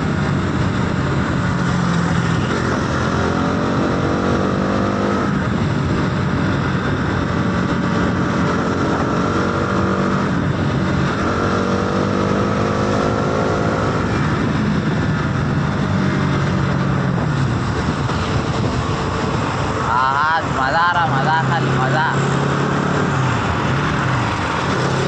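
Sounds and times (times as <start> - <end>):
motorcycle engine: 0.0 - 25.0
wind rush: 0.0 - 25.0.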